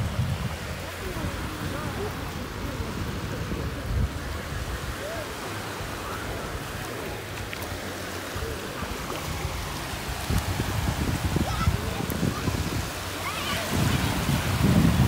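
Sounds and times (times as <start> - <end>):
faint distant voices: 0.0 - 15.0
surf washing on shore: 0.0 - 15.0
wind rumbling on microphone: 0.0 - 15.0.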